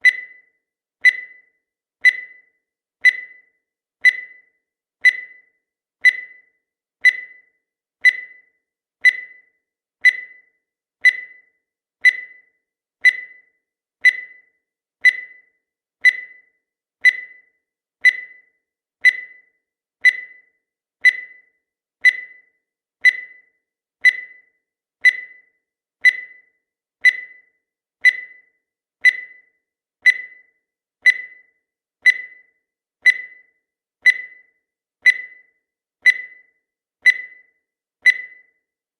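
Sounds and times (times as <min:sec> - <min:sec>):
high-pitched timer beeps: 0:00.0 - 0:38.8.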